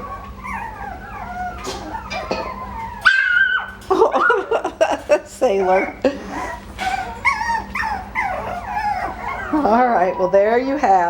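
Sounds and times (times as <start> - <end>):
dog yipping: 0.0 - 4.4, 5.6 - 10.4
dog yelping: 0.0 - 4.6, 5.4 - 11.0
dogs whining: 0.0 - 11.0.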